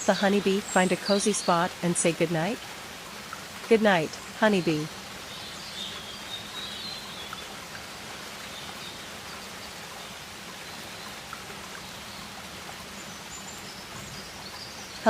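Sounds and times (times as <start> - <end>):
running water hiss: 0.0 - 15.0.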